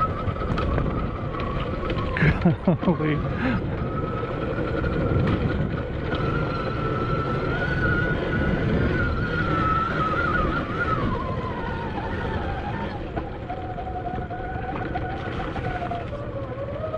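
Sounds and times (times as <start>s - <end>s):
electric motor whining: 0.0s - 16.9s
wind buffeting microphone: 0.0s - 16.9s.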